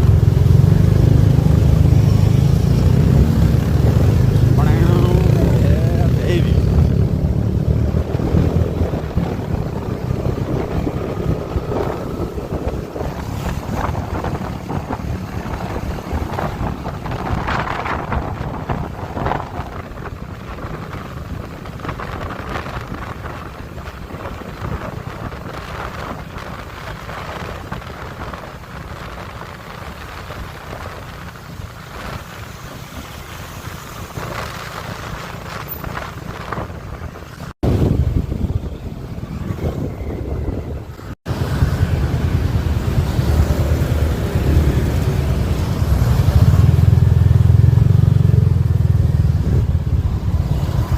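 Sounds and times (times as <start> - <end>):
motorbike and road rumble: 0.0 - 50.9
wind buffeting microphone: 0.0 - 50.9.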